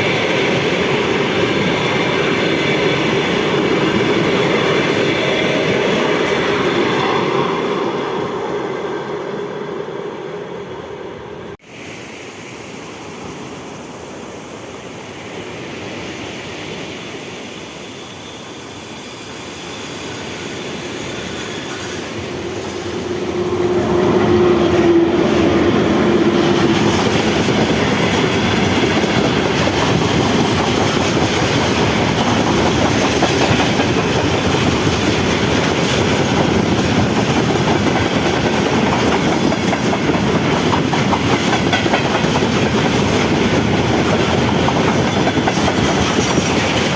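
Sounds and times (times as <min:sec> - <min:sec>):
train passing: 0:00.0 - 0:46.9.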